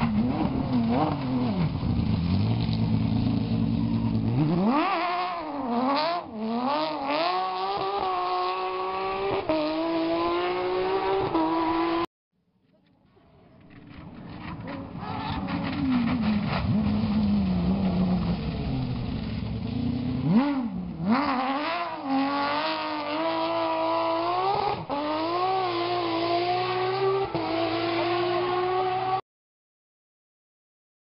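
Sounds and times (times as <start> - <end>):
car engine revving high: 0.0 - 12.1, 15.6 - 29.2.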